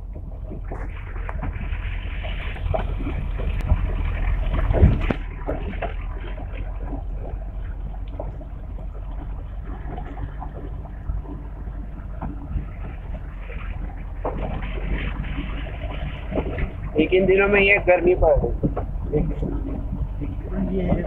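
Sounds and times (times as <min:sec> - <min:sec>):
knocks and rattles from bumps: 0:00.0 - 0:21.0
low engine rumble: 0:00.0 - 0:21.0.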